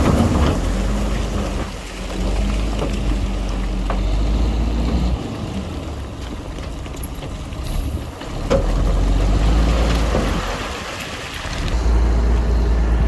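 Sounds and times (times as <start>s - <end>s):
heavy diesel engine under load: 0.0s - 13.0s.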